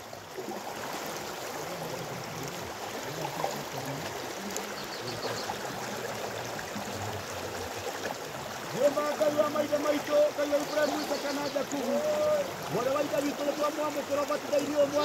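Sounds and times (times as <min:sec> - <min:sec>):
river water flowing and trickling: 0:00.0 - 0:15.0.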